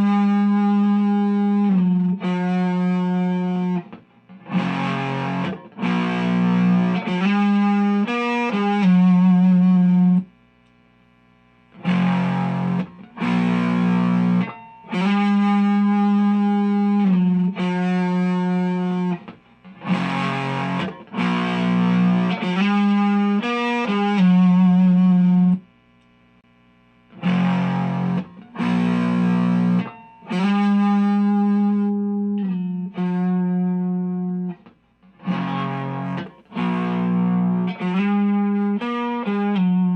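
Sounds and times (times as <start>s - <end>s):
distorted electric guitar riff: 0.0s - 39.9s.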